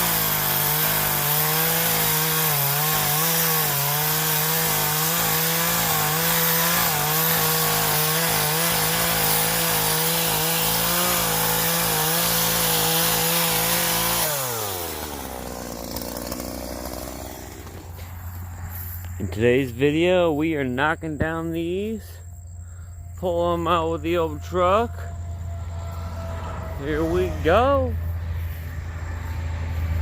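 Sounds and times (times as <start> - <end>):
chainsaw running: 0.0 - 19.4, 22.7 - 30.0.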